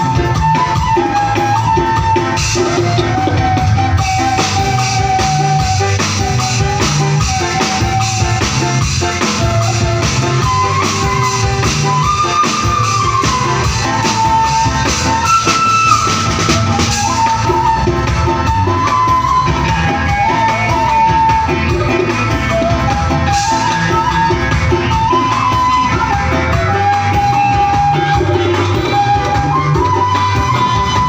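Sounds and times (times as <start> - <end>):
drum kit and bass beat: 0.0 - 31.0
melodic lead line: 0.0 - 31.0.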